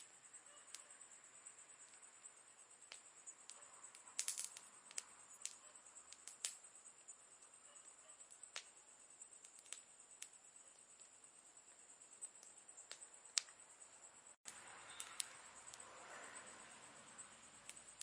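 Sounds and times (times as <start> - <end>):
campfire crackling: 0.0 - 18.0
high-pitched hiss: 0.0 - 18.0.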